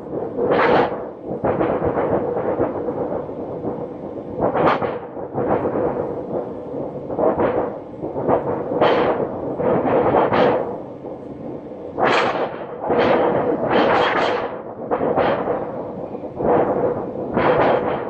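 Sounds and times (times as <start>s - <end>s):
thunder sheet rumbling: 0.0s - 18.0s.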